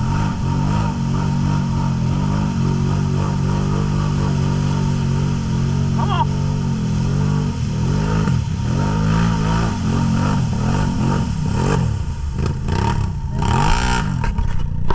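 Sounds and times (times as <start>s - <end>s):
atv engine revving: 0.0s - 14.9s
mud splashing: 0.0s - 14.9s.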